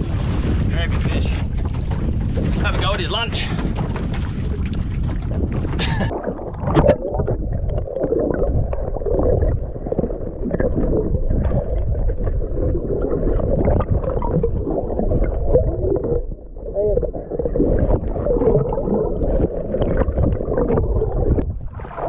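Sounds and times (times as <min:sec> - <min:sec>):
underwater rumble and gurgling: 0:00.0 - 0:22.0.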